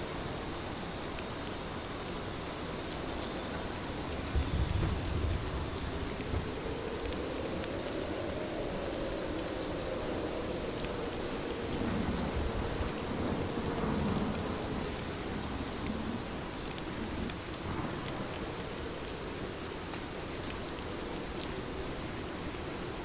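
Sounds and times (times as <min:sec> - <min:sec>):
heavy rain falling: 0:00.0 - 0:23.0
sharp raindrop ticks: 0:00.0 - 0:23.0.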